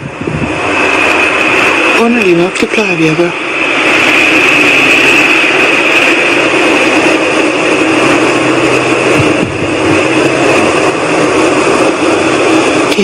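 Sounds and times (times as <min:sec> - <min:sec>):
loud whooshing sky noise: 0:00.0 - 0:13.0.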